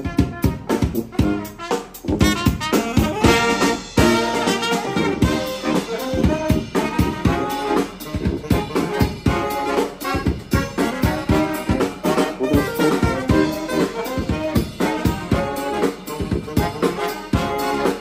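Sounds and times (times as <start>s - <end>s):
brass band playing: 0.0s - 18.0s
drum kit beat: 0.0s - 18.0s.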